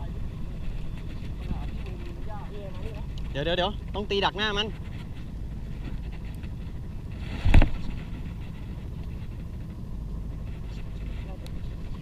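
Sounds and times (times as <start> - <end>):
reel whirring: 0.0 - 12.0
wind and sea rumble: 0.0 - 12.0.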